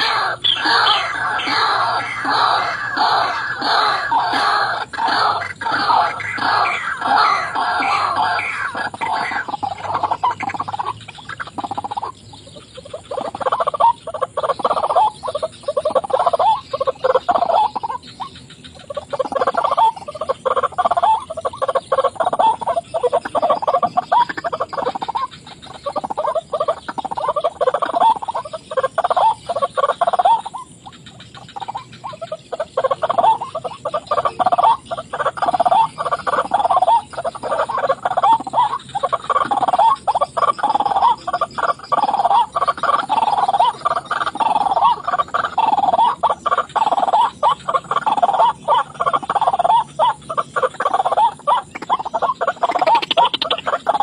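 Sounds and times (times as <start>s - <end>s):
waterhen harsh calls: 0.0s - 54.0s.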